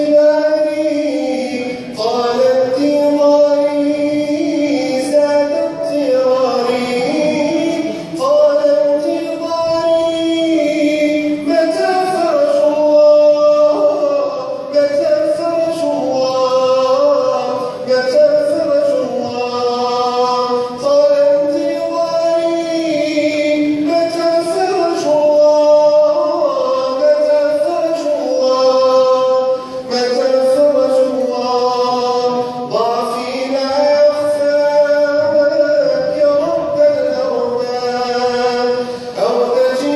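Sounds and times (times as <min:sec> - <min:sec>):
men singing in harmony: 0:00.0 - 0:39.9.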